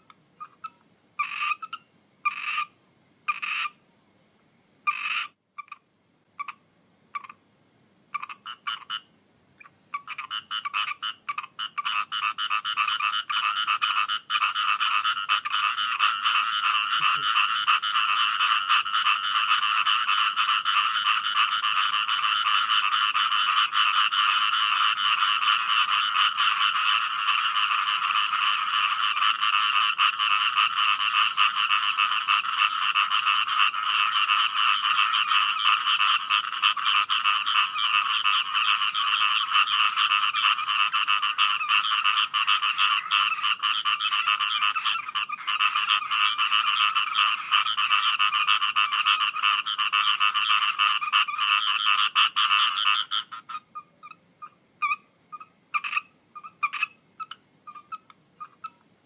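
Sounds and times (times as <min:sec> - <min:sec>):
chorus of frogs calling: 0:00.0 - 0:03.9, 0:04.8 - 0:07.4, 0:08.1 - 0:59.0.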